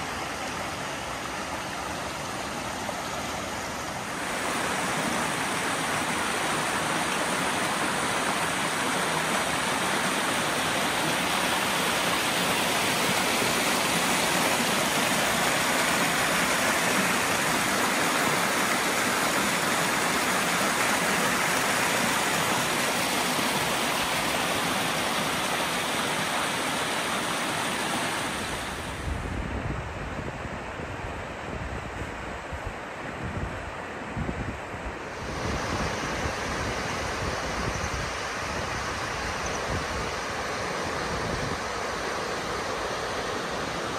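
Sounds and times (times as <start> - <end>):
waterfall rushing: 0.0 - 29.2, 35.0 - 43.9.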